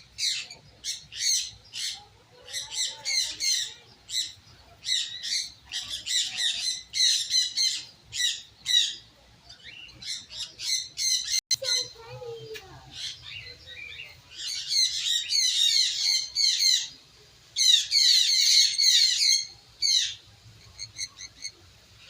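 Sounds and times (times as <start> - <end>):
caged birds chirping squawks: 0.0 - 22.0.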